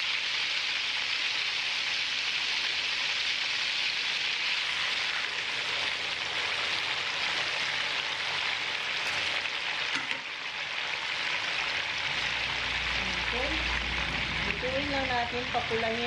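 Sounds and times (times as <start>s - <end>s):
meat deep-frying in oil: 0.0s - 16.0s.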